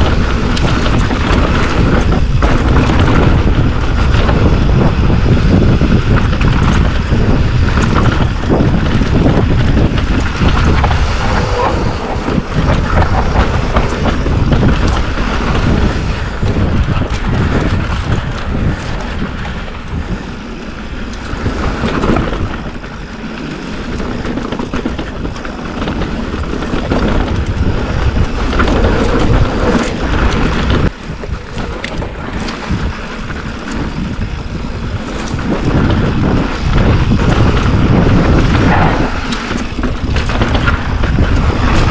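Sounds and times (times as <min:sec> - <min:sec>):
bike knocks and rattles: 0:00.0 - 0:41.9
tyres rumbling on dirt trail: 0:00.0 - 0:41.9
wind buffeting microphone: 0:00.0 - 0:41.9.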